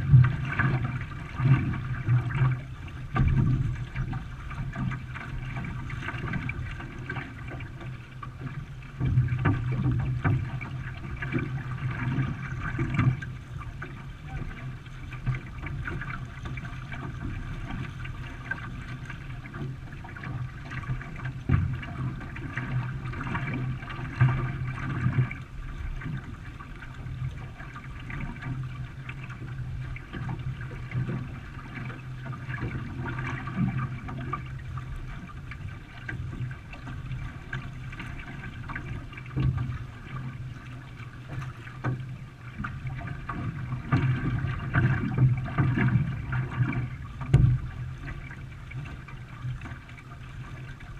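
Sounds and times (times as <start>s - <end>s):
steady wash of moving water: 0.0s - 50.9s
water splashing around paddled canoe: 0.0s - 50.9s.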